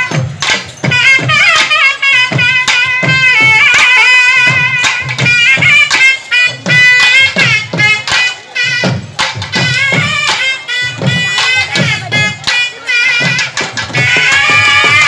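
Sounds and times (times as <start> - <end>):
barrel drums beaten with sticks: 0.0 - 15.0.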